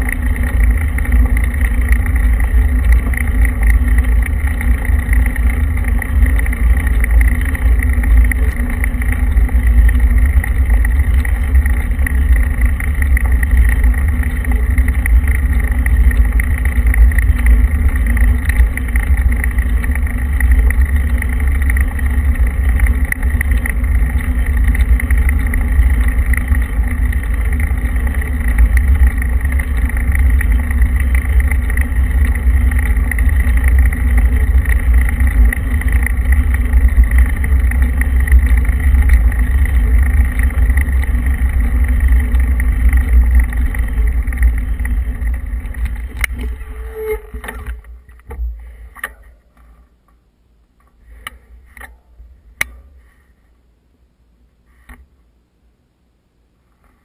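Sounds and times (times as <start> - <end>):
vehicle driving rumble: 0.0 - 53.5.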